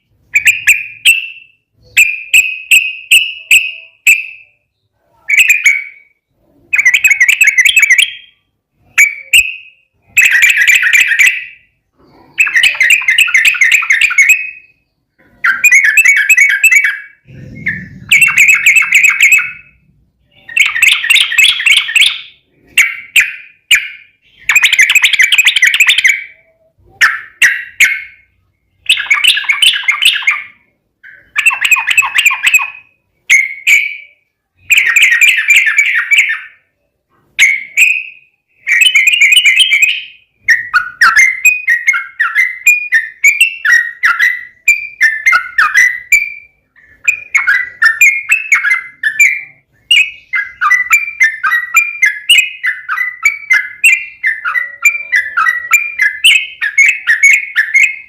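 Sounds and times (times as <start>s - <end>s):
bulbul singing: 0.0s - 58.0s.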